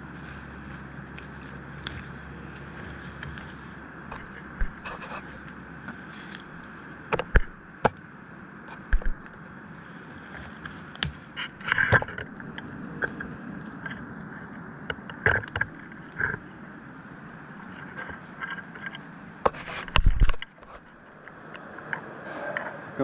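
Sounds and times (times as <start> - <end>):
steady rushing background noise: 0.0 - 23.0.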